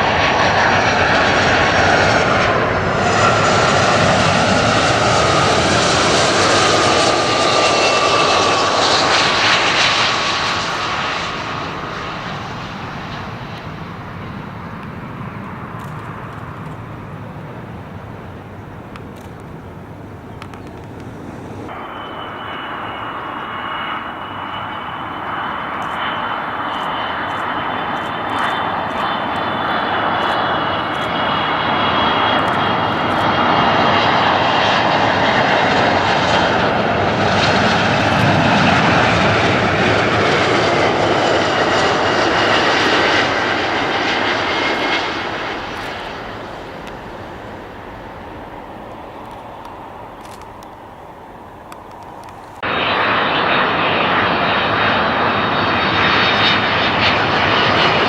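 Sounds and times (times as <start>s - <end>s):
airliner engines rushing and whining: 0.0s - 58.0s.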